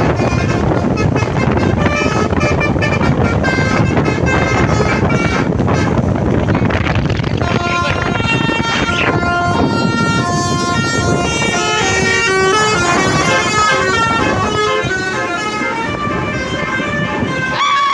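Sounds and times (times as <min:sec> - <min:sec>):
bus horn playing a melody: 0:00.0 - 0:06.5, 0:07.4 - 0:17.9
low rumble: 0:00.7 - 0:17.0.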